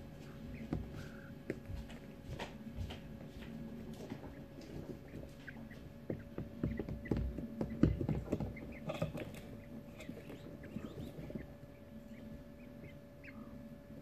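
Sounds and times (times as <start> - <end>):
quail scratching in wood shavings: 0.0 - 14.0.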